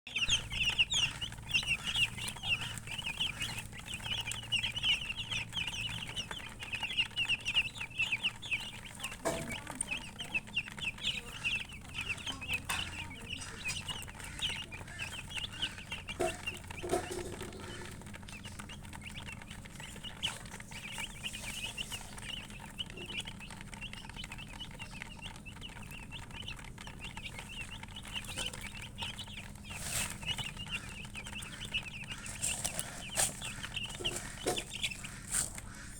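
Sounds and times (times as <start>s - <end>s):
baby chicks peeping: 0.0s - 35.9s.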